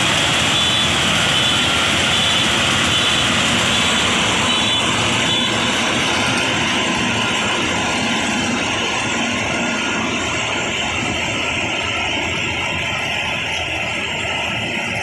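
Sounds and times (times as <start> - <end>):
harvesting machine engine running: 0.0 - 15.0.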